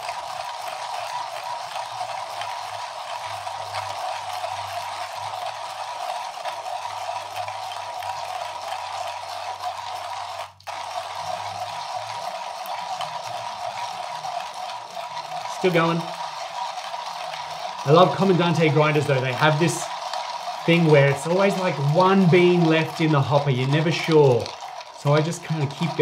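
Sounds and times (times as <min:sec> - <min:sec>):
hand grinder crunching coffee beans: 0:00.0 - 0:26.0.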